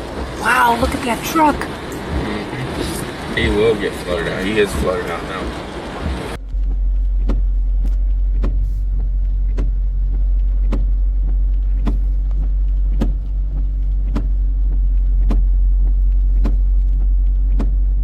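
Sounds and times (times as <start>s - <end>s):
car engine hum: 0.0s - 18.0s.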